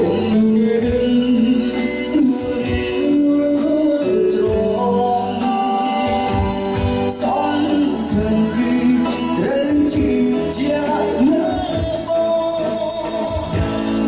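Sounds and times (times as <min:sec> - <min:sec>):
band music with singer: 0:00.0 - 0:14.0.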